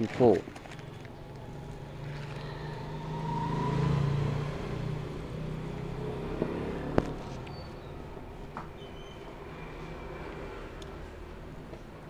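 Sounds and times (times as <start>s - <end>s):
vehicle passing by: 0.6s - 12.0s.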